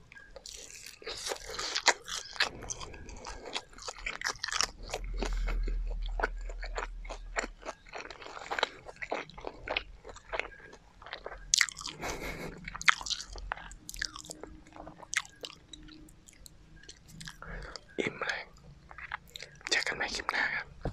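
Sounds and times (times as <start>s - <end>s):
crunchy chewing: 0.1s - 20.8s.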